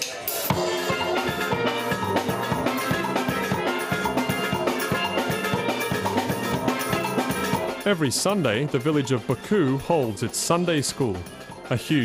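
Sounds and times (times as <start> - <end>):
drum kit beat: 0.1 - 12.0.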